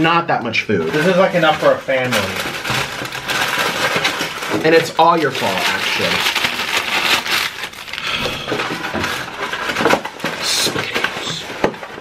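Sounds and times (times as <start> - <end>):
paper liner crinkling: 0.6 - 12.0.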